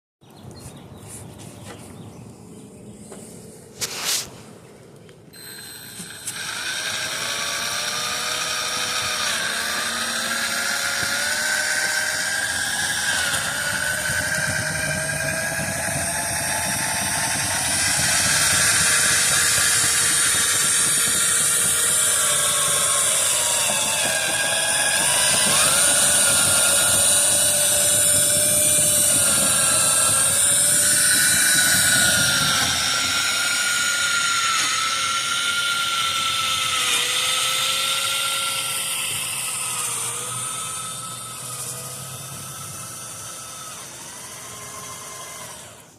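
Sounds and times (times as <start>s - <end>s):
power drill motor whining: 5.4s - 45.9s.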